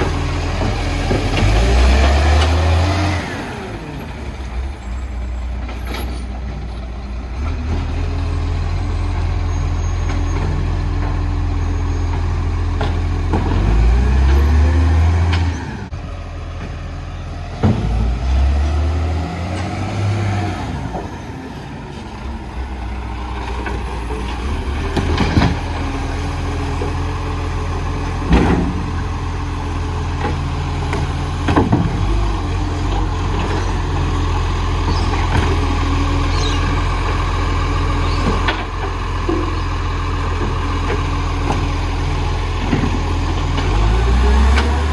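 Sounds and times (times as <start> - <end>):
garbage truck engine revving: 0.0 - 16.4, 17.2 - 44.9.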